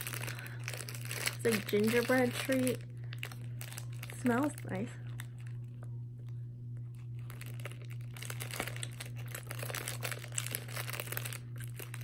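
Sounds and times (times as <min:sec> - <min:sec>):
plastic wrapper crinkling: 0:00.0 - 0:06.0, 0:06.8 - 0:12.0
steady low hum: 0:00.0 - 0:12.0.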